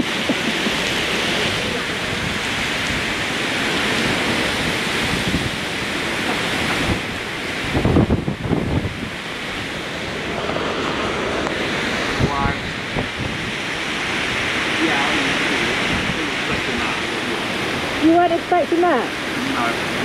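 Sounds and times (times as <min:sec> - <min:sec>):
heavy rain pouring: 0:00.0 - 0:20.0
wind buffeting microphone: 0:00.0 - 0:20.0.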